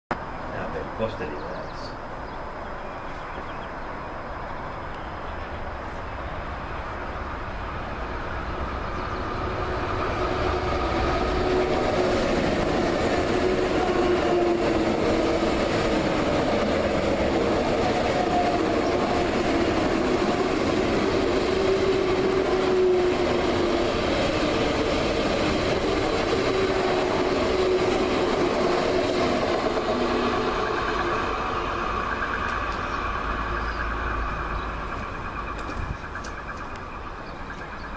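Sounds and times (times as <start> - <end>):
train passing: 0.1 - 37.9
wheels on rails humming: 2.2 - 37.9.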